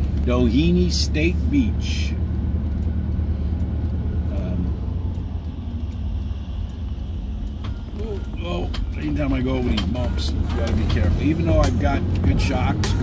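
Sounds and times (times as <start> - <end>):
engine and road drone: 0.0 - 13.0.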